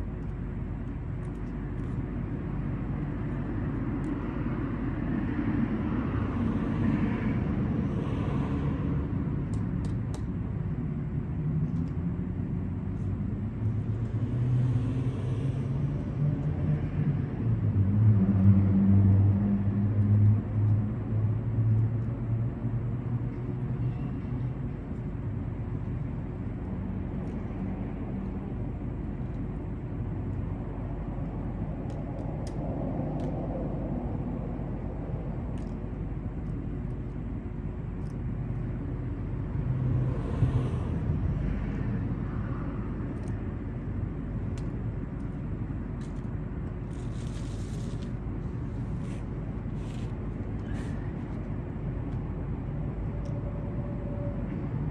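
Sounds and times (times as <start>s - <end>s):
rumble of motor vehicles: 0.0s - 54.9s.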